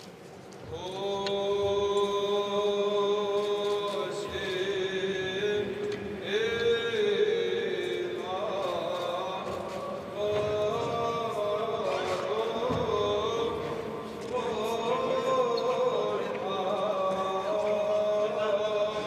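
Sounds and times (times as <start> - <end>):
men chanting a hymn: 0.7 - 19.0.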